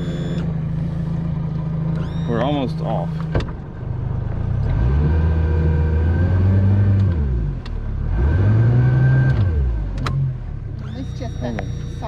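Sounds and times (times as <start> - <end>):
outboard motor revving: 0.0 - 12.0.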